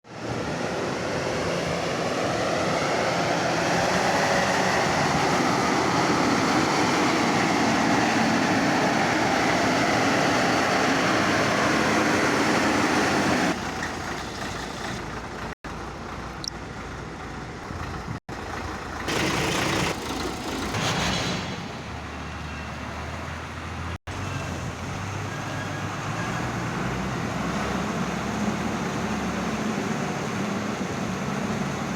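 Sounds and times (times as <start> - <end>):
diesel truck engine running: 0.1 - 31.9.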